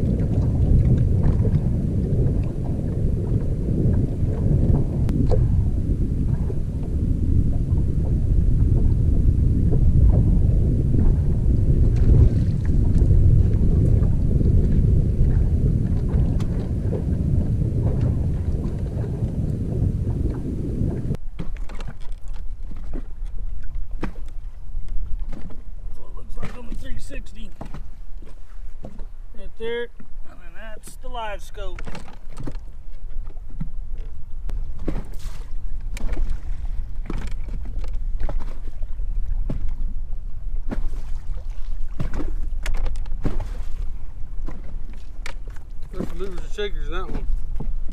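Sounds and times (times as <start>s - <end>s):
waves slapping against boat: 0.0s - 47.9s
wind buffeting microphone: 0.0s - 47.9s.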